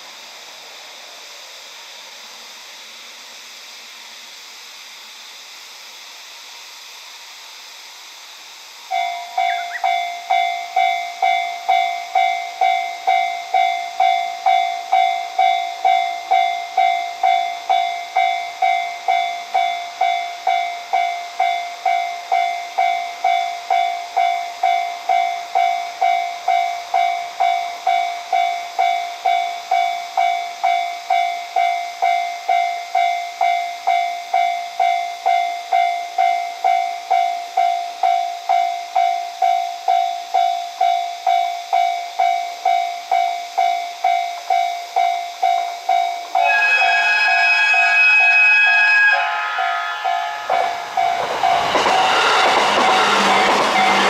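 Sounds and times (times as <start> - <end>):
level crossing warning bell: 8.9 - 54.0.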